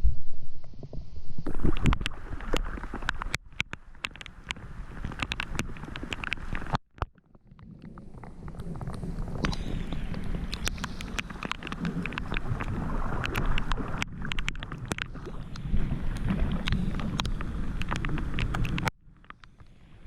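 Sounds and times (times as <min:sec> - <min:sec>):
wind rumbling on microphone: 0:00.0 - 0:20.0
rain drops tapping on a kayak: 0:01.4 - 0:20.0.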